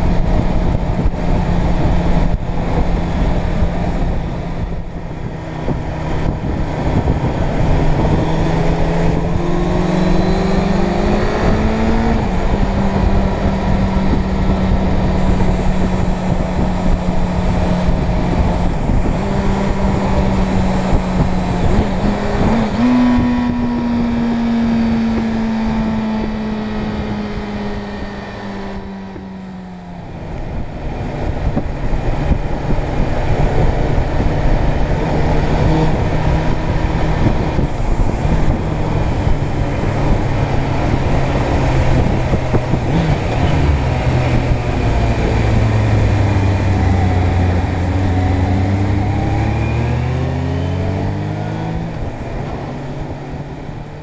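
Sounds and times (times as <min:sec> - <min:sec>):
heavy wind noise: 0:00.0 - 0:54.0
motorcycle engine running: 0:00.0 - 0:54.0.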